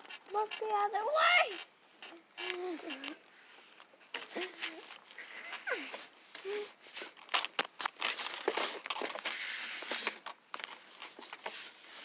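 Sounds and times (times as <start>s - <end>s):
quick clicks and scratches: 0.0s - 12.0s.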